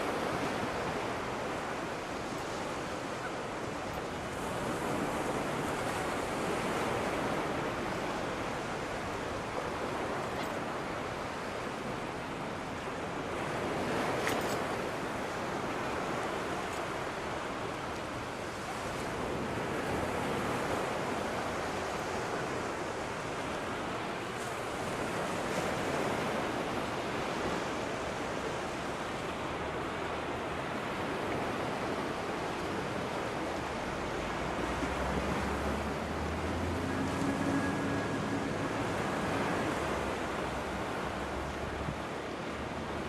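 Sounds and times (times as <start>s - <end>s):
waves washing on shore: 0.0s - 43.0s.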